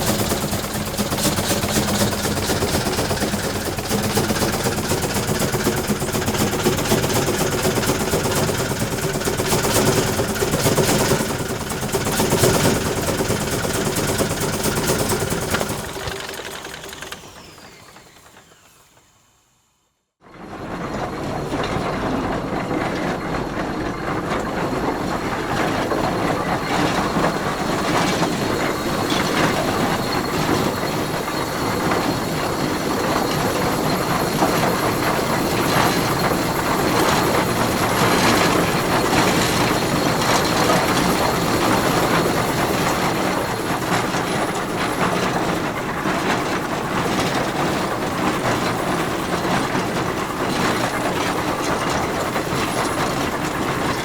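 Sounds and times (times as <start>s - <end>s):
tractor engine clattering: 0.0s - 18.5s, 20.4s - 54.0s.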